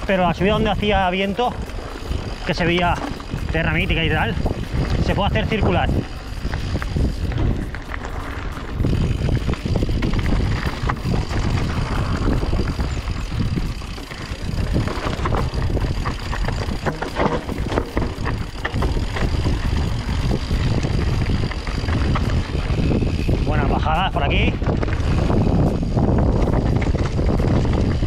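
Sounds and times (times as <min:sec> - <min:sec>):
bike clicks and rattles: 0:00.0 - 0:28.0
tyres on loose stones: 0:00.0 - 0:28.0
wind rumble on the microphone: 0:00.0 - 0:28.0.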